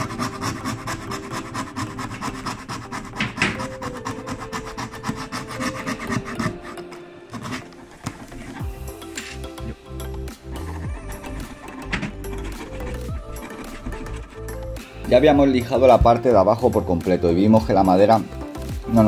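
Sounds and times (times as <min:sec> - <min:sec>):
hand scraper scraping wood: 0:00.0 - 0:19.0.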